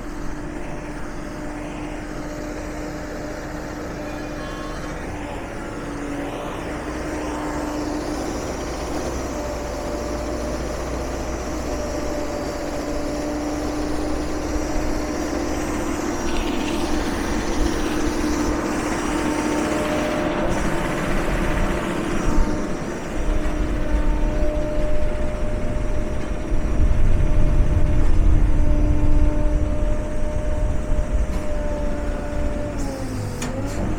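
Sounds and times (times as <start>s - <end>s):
log baler engine humming: 0.0s - 33.9s.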